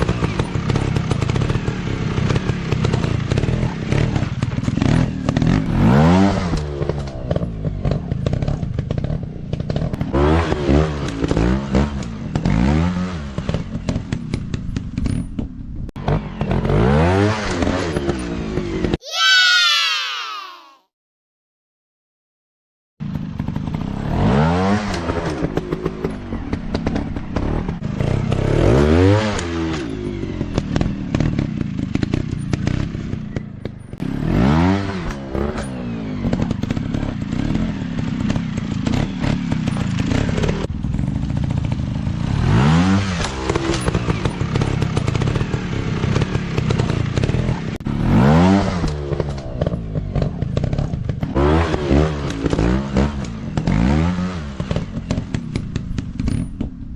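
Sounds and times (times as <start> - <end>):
motorcycle engine revving: 0.0 - 19.0, 23.0 - 56.9.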